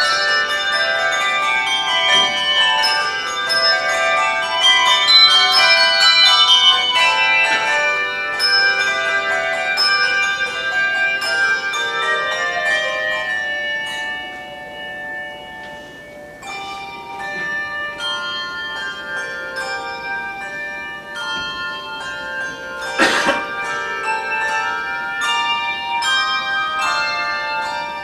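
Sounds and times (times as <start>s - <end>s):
handbells ringing a tune: 0.0s - 28.0s.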